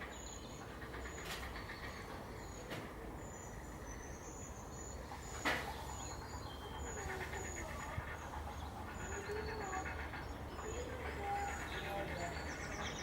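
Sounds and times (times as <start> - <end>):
birds calling with high thin notes: 0.0 - 13.0.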